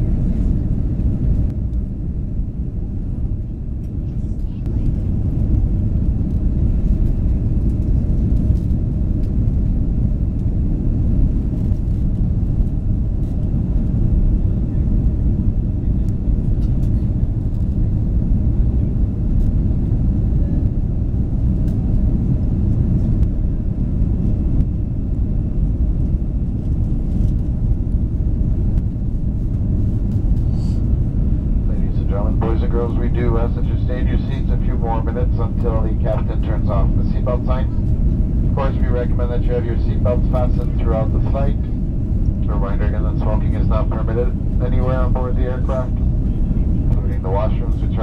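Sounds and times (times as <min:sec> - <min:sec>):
jet engines roaring in cabin: 0:00.0 - 0:48.0
rushing airflow: 0:04.8 - 0:48.0.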